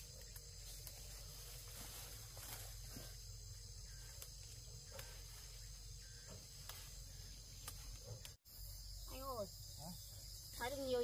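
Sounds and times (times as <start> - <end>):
insects chorus drone: 0.0 - 11.0.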